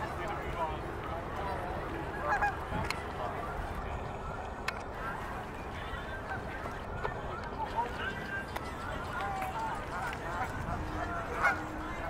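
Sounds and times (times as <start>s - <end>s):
geese honking: 1.1s - 12.0s.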